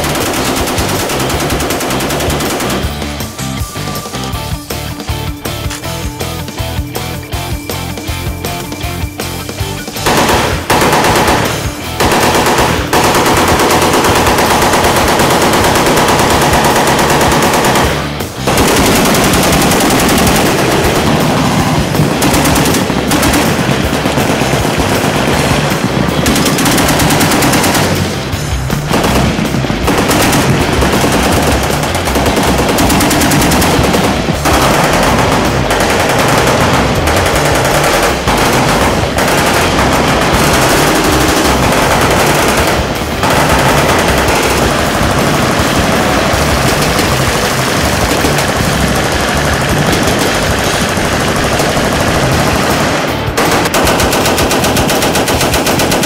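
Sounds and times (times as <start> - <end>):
machine gun automatic fire: 0.0 - 3.4, 10.0 - 56.0.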